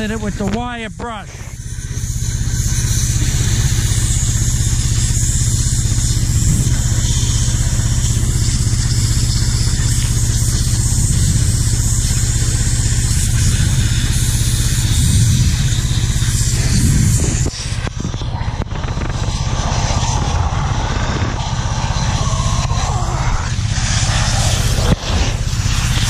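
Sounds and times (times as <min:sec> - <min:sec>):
high-pressure water jet hissing: 0:00.0 - 0:26.0
pressure washer motor humming: 0:00.0 - 0:26.0.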